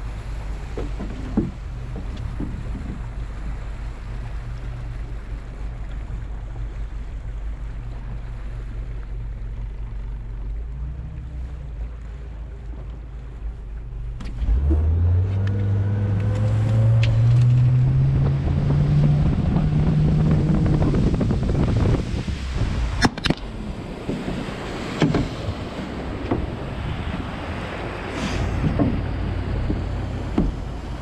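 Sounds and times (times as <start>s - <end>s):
boat engine throttling up: 0.0s - 31.0s
water rushing past hull: 0.0s - 31.0s.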